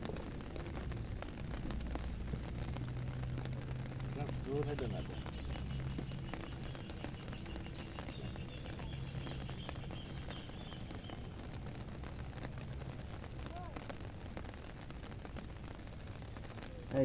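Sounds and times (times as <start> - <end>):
heavy rain: 0.0 - 17.0
raindrops hitting close by: 0.0 - 17.0.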